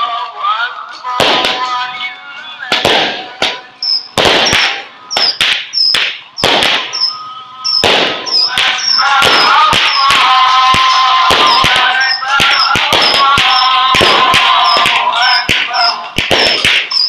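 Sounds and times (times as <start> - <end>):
fireworks exploding and crackling: 1.2 - 1.8, 2.7 - 17.0.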